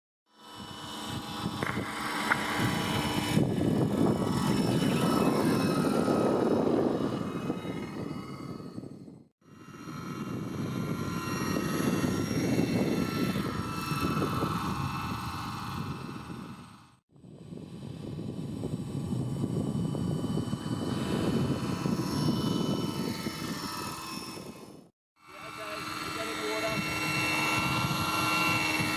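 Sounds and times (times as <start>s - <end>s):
electric motor whine: 0.3s - 28.9s
helicopter rotor blades chopping: 0.3s - 28.9s.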